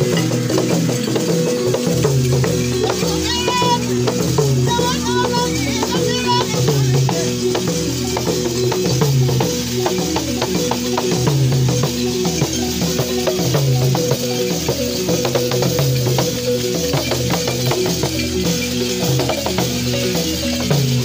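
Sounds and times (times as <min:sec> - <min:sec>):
rattle strokes: 0:00.0 - 0:21.0.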